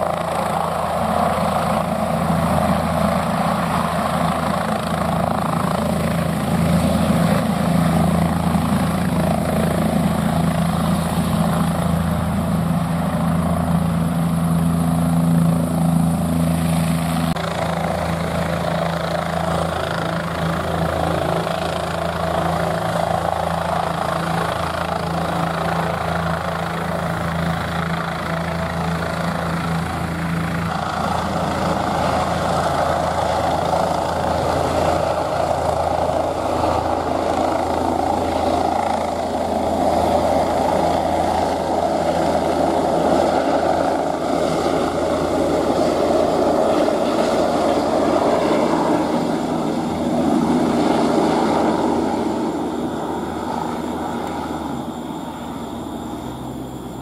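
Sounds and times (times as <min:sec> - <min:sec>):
helicopter engine and rotors: 0:00.0 - 0:57.0.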